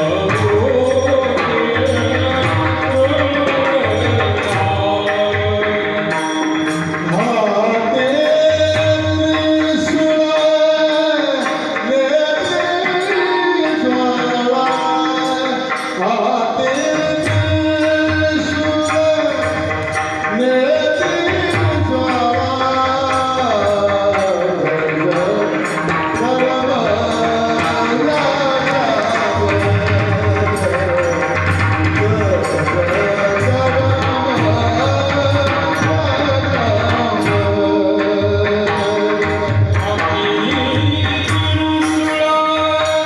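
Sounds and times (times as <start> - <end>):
man singing devotional melody: 0.0 - 43.0.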